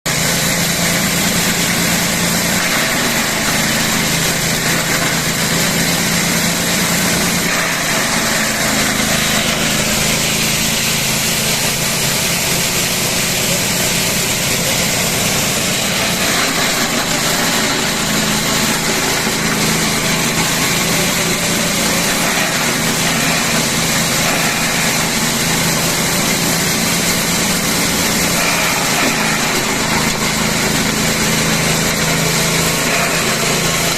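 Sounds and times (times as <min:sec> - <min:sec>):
grass chopper machine running: 0:00.0 - 0:33.9.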